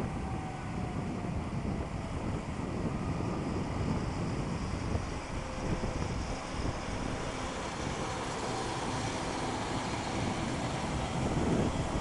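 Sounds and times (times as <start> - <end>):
train rumbling on tracks: 0.0 - 12.0
wind buffeting microphone: 0.0 - 12.0.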